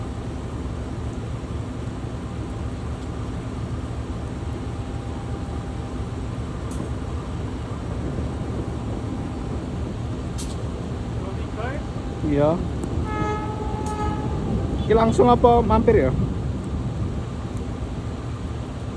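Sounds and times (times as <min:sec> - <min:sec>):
train rumbling: 0:00.0 - 0:18.9.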